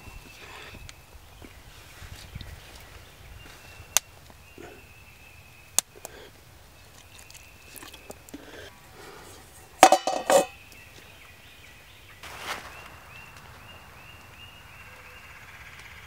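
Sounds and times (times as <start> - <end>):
quiet outdoor background: 0.0 - 16.0.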